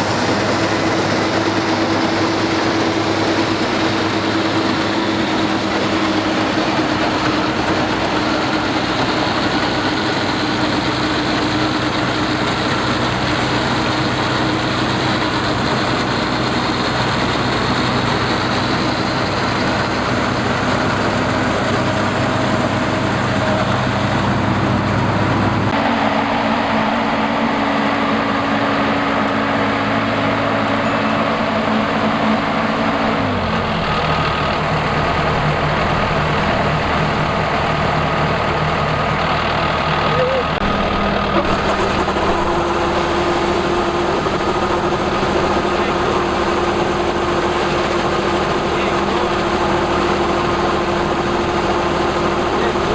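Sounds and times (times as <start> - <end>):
harvester engine running: 0.0 - 52.9.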